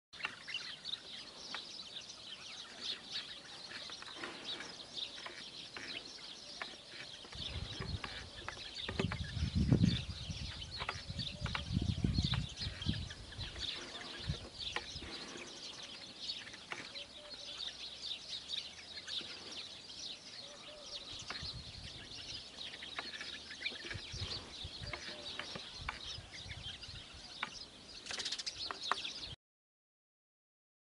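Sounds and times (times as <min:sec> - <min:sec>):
small birds chirping: 0:00.2 - 0:29.4.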